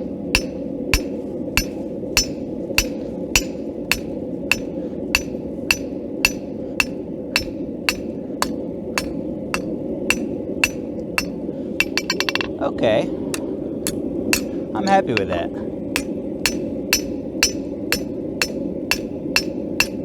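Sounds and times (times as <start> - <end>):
hammer striking steel on anvil: 0.3 - 12.6, 13.3 - 20.0.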